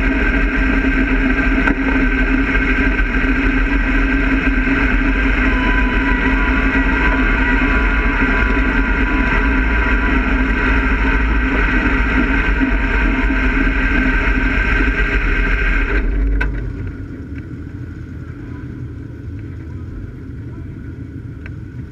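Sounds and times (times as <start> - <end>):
low rumble: 0.0 - 21.9
race car engine idling: 0.0 - 21.9.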